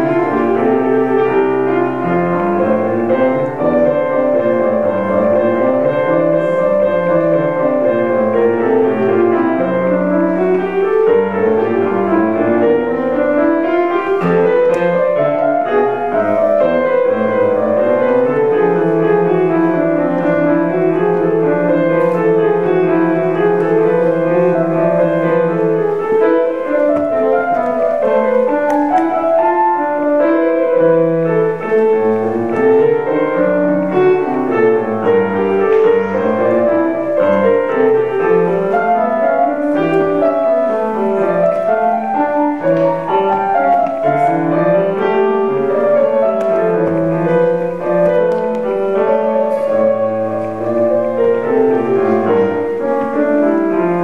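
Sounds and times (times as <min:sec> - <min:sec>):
solo grand piano: 0:00.0 - 0:54.0.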